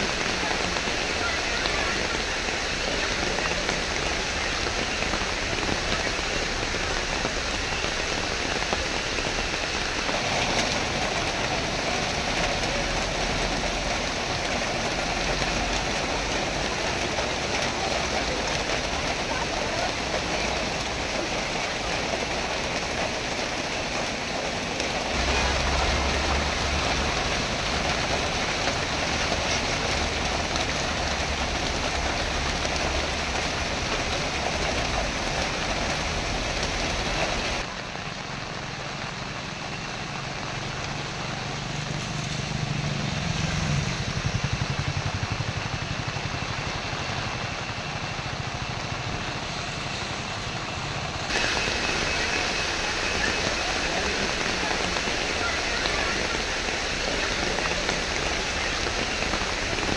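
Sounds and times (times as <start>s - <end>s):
car passing on wet road: 0.0s - 59.9s
rain pouring onto wet road: 0.0s - 59.9s.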